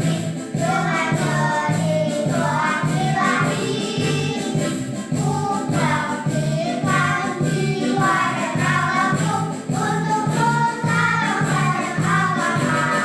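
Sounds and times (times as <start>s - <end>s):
children's choir singing: 0.0s - 13.0s
musical accompaniment with beat: 0.0s - 13.0s.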